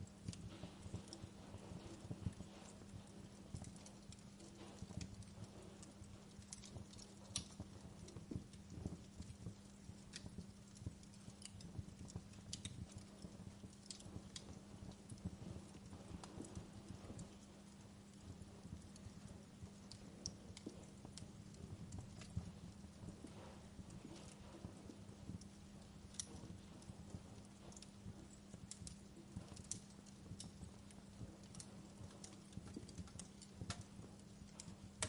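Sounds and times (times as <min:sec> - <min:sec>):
fire pops and snaps: 0:00.0 - 0:35.0
low steady rumble: 0:00.0 - 0:35.0
wood fire crackling: 0:00.0 - 0:35.0.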